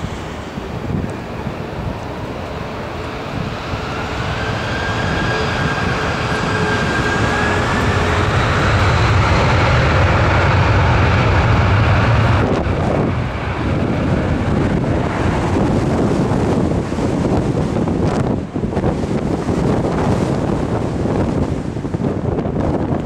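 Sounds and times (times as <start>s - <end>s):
jet engines spooling up: 0.0s - 22.2s
high jet whine: 0.0s - 23.0s.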